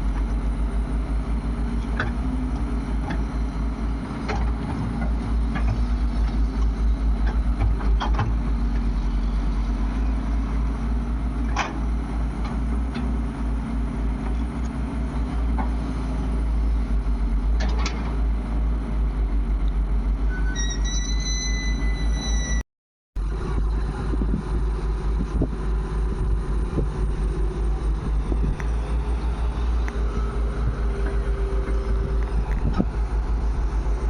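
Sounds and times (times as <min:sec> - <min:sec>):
heavy diesel engine running: 0:00.0 - 0:22.6, 0:23.2 - 0:34.0.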